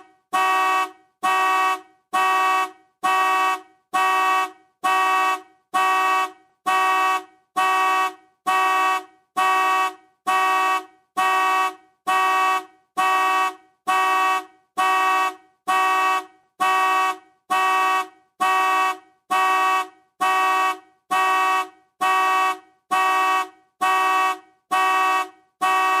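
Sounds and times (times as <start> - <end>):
car horn honks: 0.0 - 26.0.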